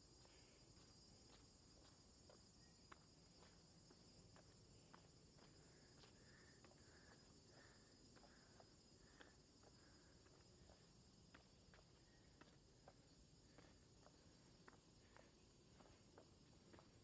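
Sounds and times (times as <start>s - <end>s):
high-pitched insect chorus: 0.0s - 17.0s
footsteps on paved path: 0.1s - 17.0s.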